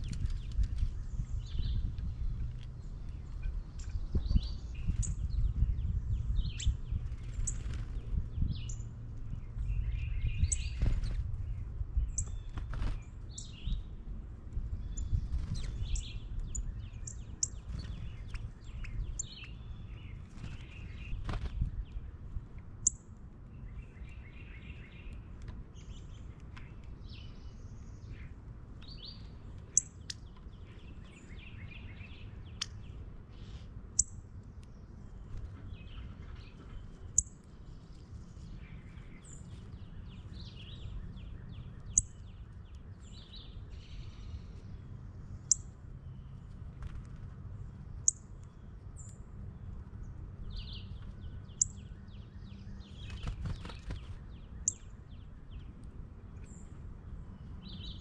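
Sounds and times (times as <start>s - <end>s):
birds chirping and trilling: 0.0s - 14.1s, 14.7s - 58.0s
steady low rumble: 0.0s - 58.0s.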